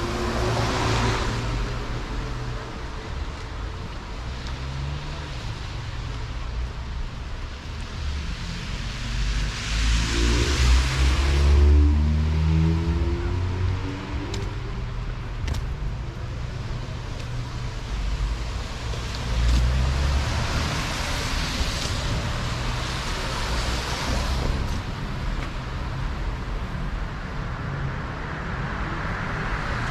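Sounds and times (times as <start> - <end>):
road noise rumble: 0.0 - 29.9.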